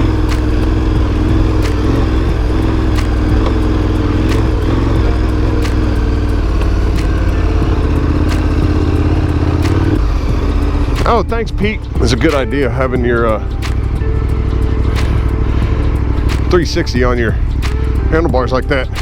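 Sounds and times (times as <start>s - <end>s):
motorcycle engine running: 0.0s - 19.0s
sharp tick: 0.0s - 19.0s.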